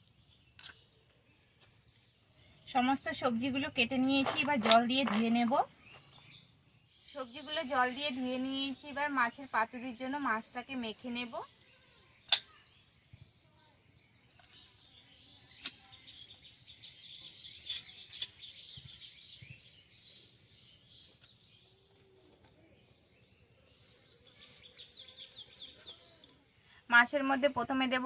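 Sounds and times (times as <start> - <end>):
small birds twittering: 0.0 - 28.0.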